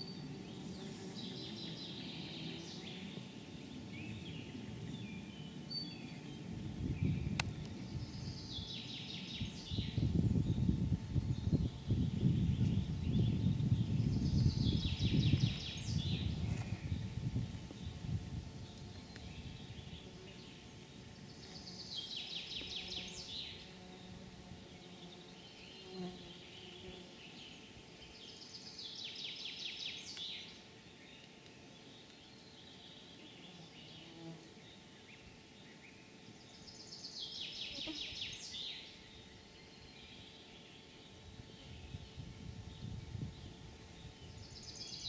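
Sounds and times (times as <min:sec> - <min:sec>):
outdoor background noise: 0:00.0 - 0:45.0
songbird singing: 0:00.0 - 0:45.0.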